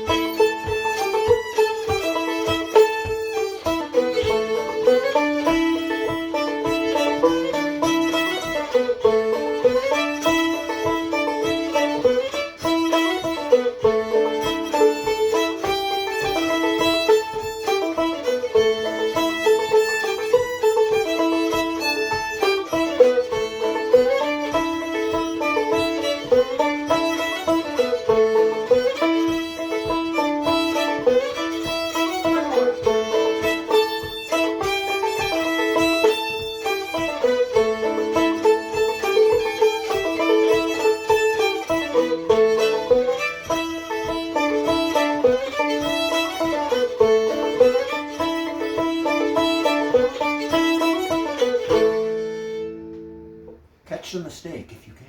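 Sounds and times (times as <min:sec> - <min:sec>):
plucked banjo strokes: 0:00.0 - 0:53.8
bowed fiddle melody: 0:00.0 - 0:53.9.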